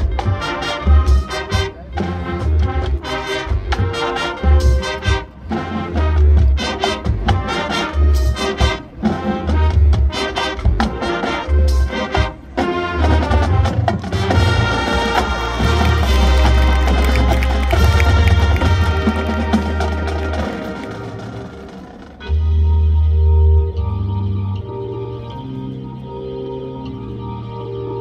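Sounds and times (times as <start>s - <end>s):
marching band brass chords: 0.0s - 28.0s.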